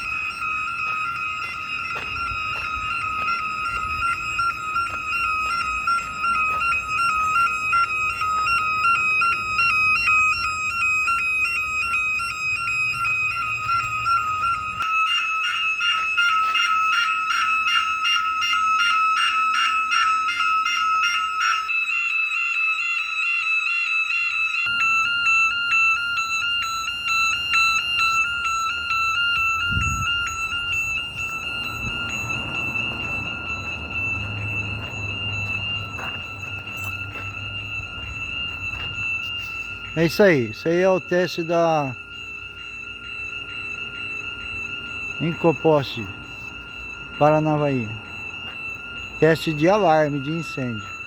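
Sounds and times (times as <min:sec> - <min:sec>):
fire alarm two-tone signal: 0:00.0 - 0:51.0.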